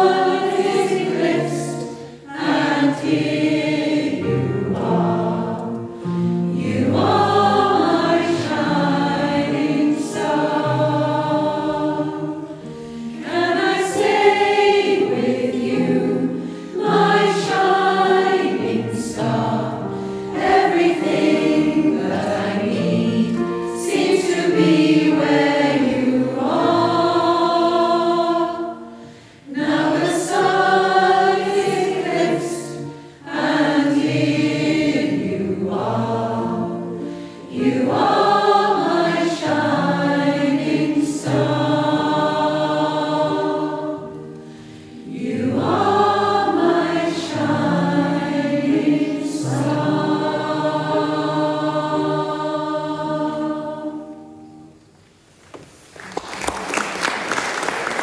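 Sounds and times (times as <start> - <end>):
choir singing: 0.0 - 54.8.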